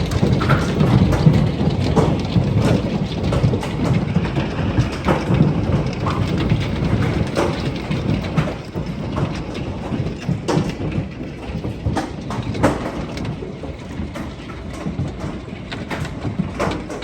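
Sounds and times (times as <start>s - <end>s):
hailstones knocking on hard surfaces: 0.0s - 17.0s.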